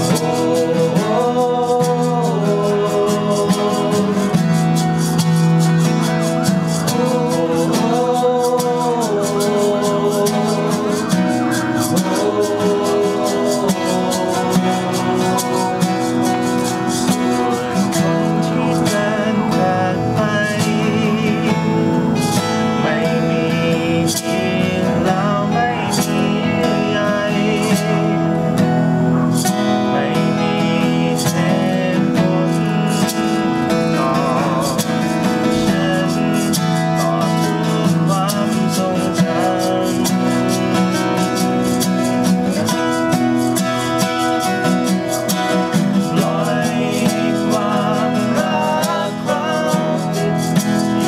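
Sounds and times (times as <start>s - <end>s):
acoustic guitars playing: 0.0s - 51.0s.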